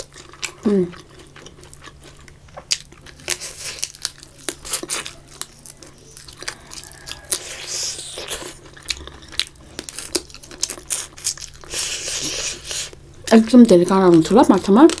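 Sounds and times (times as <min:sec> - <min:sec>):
crunchy chewing: 0:00.0 - 0:13.4.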